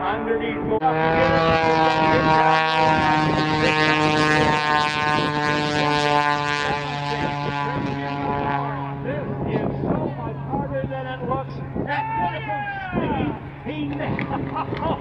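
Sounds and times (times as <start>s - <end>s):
biplane engine drone overhead: 0.0s - 15.0s.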